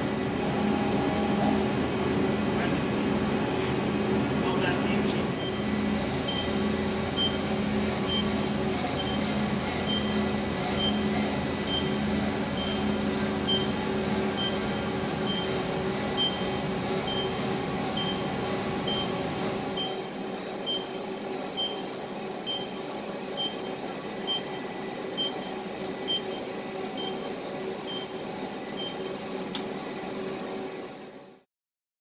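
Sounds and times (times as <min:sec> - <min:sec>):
machinery humming: 0:00.0 - 0:31.4.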